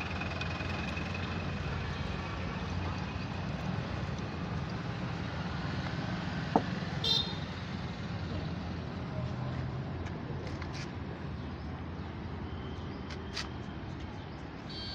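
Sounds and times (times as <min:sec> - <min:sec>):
street traffic noise: 0:00.0 - 0:14.9.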